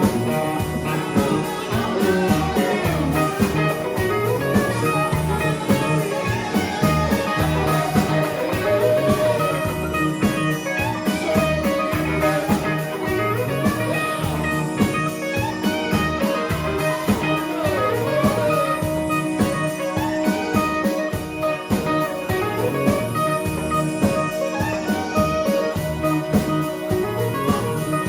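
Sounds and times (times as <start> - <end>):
bass guitar: 0.0 - 28.0
drum kit beat: 0.0 - 28.0
electric guitar: 0.0 - 28.0.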